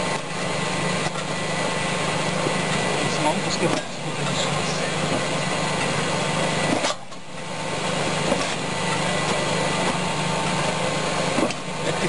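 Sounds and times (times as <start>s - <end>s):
firewood chopping machine running: 0.0s - 12.0s.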